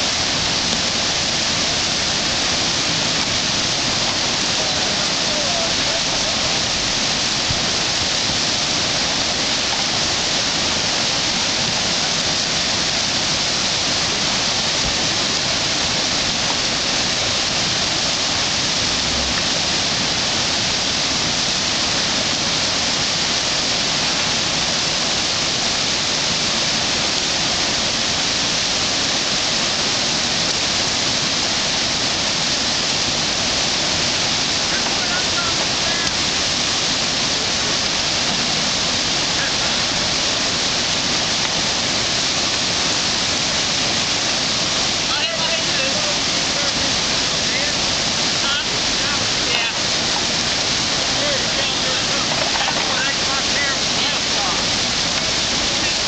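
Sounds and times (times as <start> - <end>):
whitewater rapid rushing: 0.0 - 56.0.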